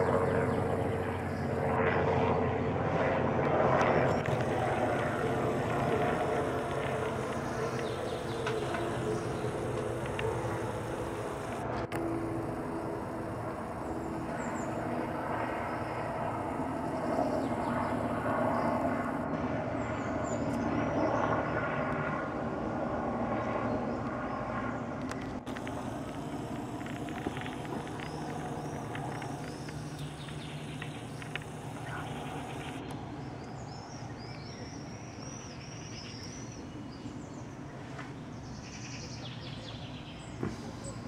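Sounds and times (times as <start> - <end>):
helicopter flying past: 0.0 - 33.9.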